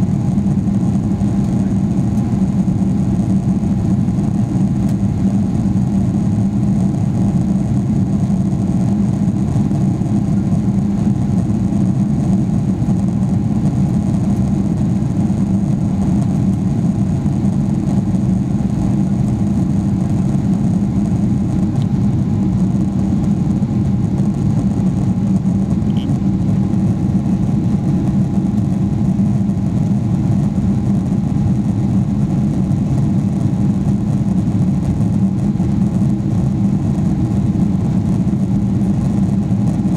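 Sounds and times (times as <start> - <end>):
faint constant whine: 0.0 - 39.9
jet engine drone in cabin: 0.0 - 39.9.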